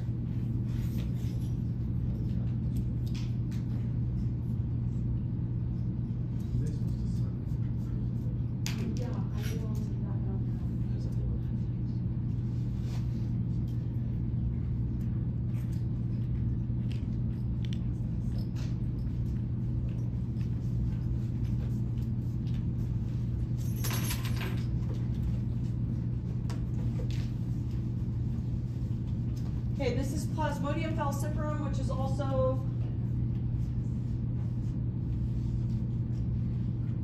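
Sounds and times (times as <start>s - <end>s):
low machinery hum: 0.0s - 37.0s.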